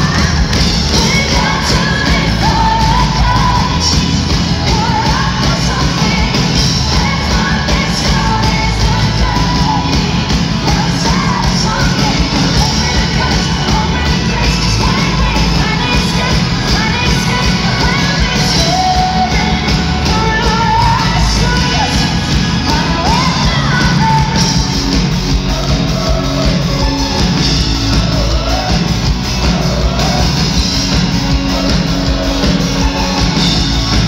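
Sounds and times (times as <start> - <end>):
female lead vocal: 0.0 - 34.0
live pop-rock band playing: 0.0 - 34.0.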